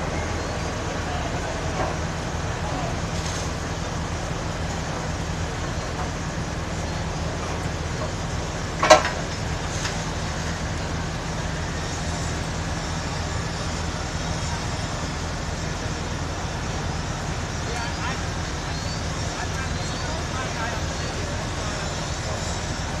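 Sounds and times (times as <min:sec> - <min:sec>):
fire engines rumbling: 0:00.0 - 0:23.0.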